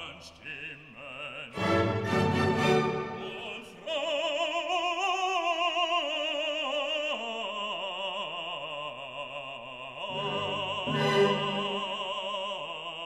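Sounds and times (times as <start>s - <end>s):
operatic voice singing: 0.0s - 13.0s.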